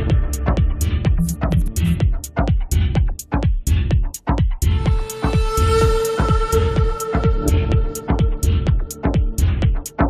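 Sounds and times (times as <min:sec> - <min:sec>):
electronic music: 0:00.0 - 0:10.0
hi-hat ticks: 0:00.0 - 0:10.0
kick drum: 0:00.0 - 0:10.0.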